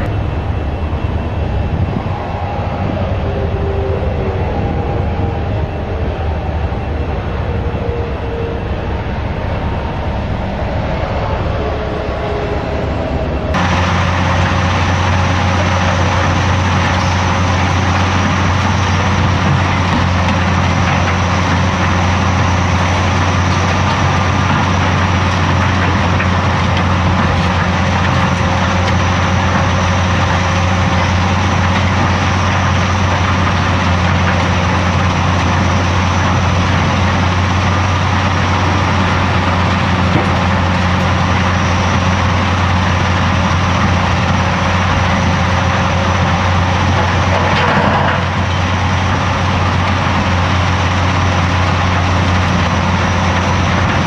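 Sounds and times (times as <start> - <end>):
excavator engine droning: 0.0 - 54.0.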